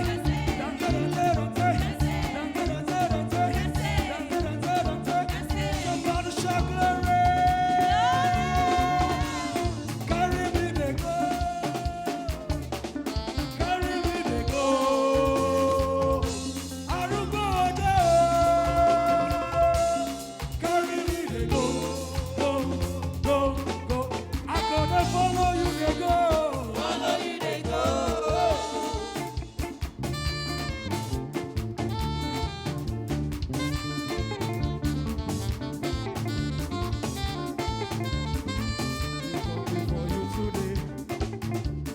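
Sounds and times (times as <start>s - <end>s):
live praise band music: 0.0s - 41.9s.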